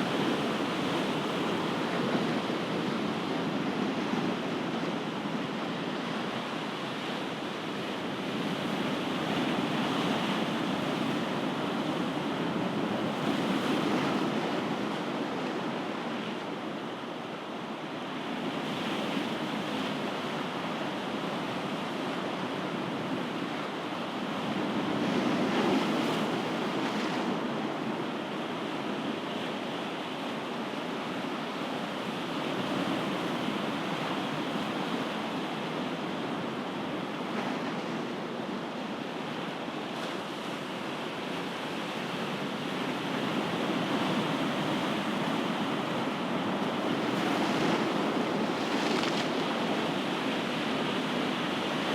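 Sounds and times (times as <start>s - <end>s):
ocean waves breaking on shore: 0.0s - 51.9s.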